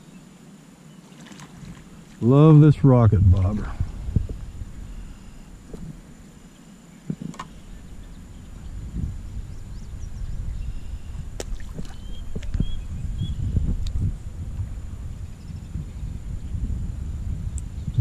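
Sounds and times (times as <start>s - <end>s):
wind buffeting microphone: 1.6s - 6.2s, 7.1s - 18.0s.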